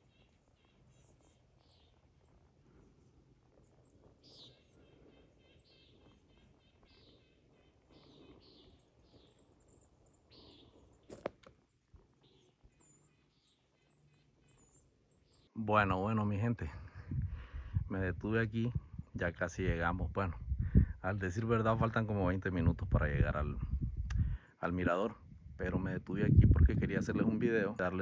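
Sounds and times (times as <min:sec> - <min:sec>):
faint birdsong chirping: 0:00.0 - 0:28.0.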